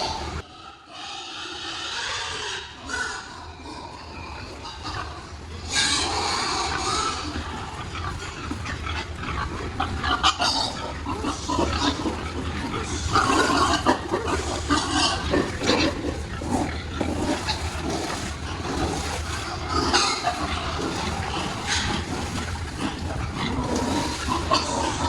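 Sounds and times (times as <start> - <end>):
pigs grunting and squealing: 0.0 - 25.0
steady low hum: 3.8 - 25.0.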